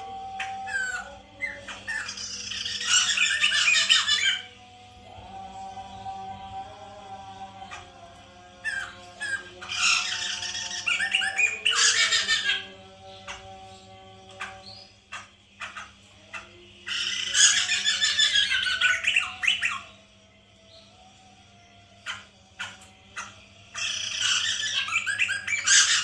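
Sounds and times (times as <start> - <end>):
birds squawking chatter: 0.0 - 26.0.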